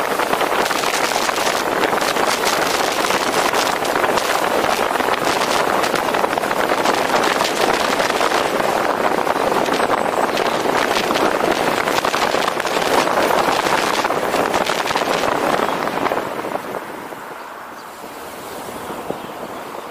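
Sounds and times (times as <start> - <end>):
road and tyre noise: 0.0 - 19.9
wind buffeting microphone: 0.0 - 19.9.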